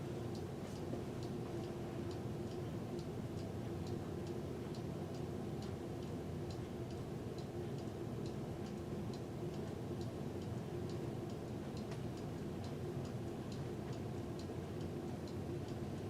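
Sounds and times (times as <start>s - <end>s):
ceiling fan low hum: 0.0s - 16.0s
ceiling fan ticking: 0.0s - 16.0s.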